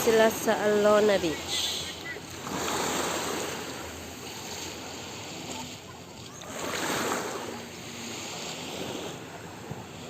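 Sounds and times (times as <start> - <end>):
sea water washing: 0.0 - 10.0.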